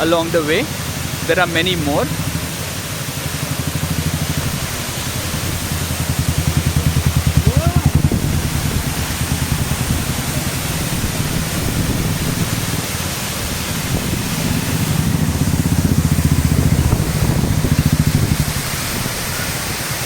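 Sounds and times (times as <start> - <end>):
constant hiss: 0.0 - 20.0
vehicle engine throbbing: 0.0 - 20.0.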